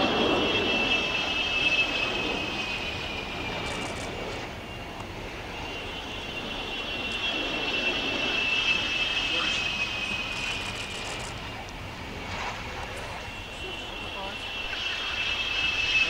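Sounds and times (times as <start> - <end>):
jet engine whine: 0.0 - 16.0.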